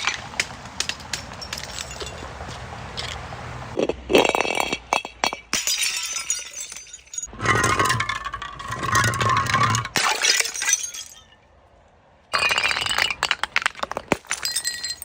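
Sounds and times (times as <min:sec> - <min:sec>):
glass crunching and breaking: 0:00.0 - 0:02.2, 0:03.8 - 0:11.4, 0:12.3 - 0:15.0.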